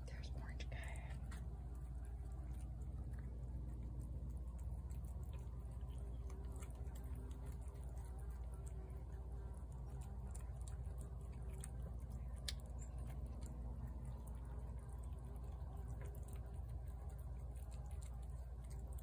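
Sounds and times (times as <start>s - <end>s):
cat chewing and licking: 0.0s - 19.0s
low steady hum: 0.0s - 19.0s.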